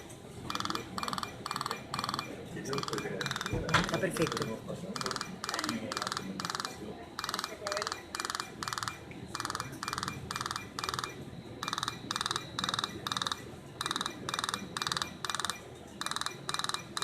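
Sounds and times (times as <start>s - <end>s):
laser rapid clicking bursts: 0.5s - 17.0s.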